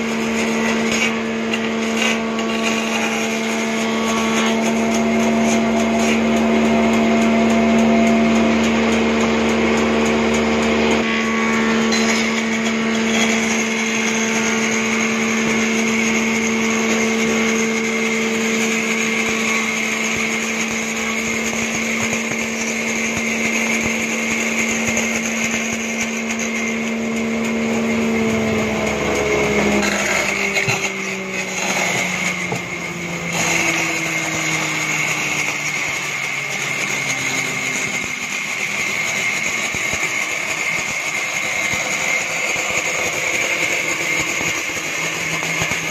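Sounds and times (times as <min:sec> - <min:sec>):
band saw humming: 0:00.0 - 0:45.9
saw blade cutting wood: 0:00.0 - 0:45.9.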